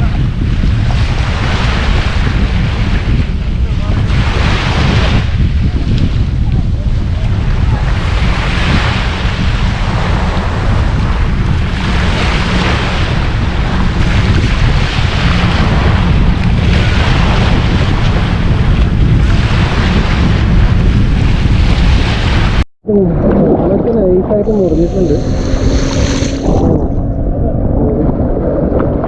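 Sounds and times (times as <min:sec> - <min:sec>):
sea water washing: 0:00.0 - 0:29.0
wind buffeting microphone: 0:00.0 - 0:29.0.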